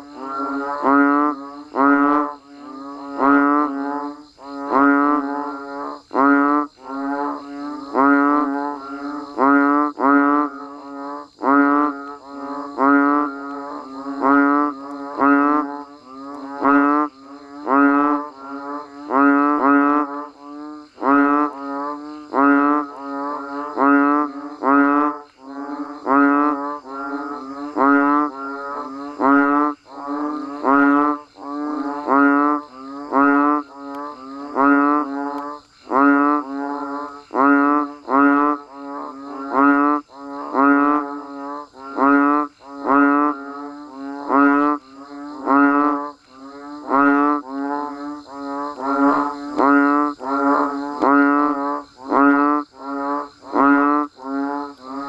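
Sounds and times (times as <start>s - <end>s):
bullfrogs bellowing: 0.0s - 55.0s.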